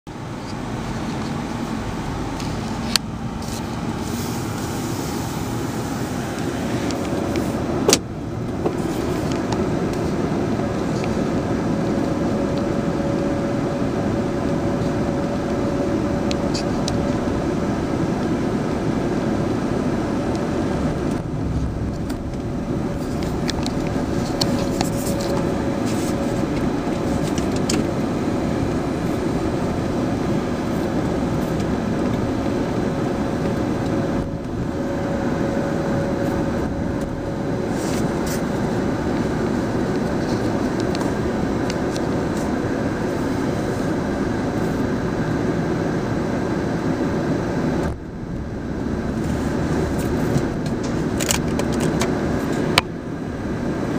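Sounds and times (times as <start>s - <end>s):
car road noise: 0.1s - 53.9s.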